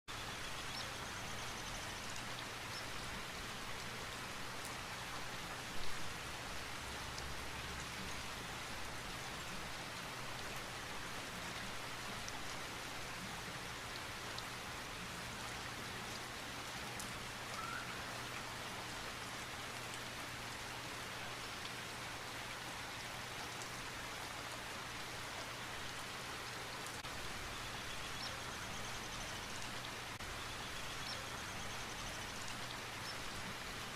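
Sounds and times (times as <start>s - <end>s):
steady rain patter: 0.1s - 33.9s.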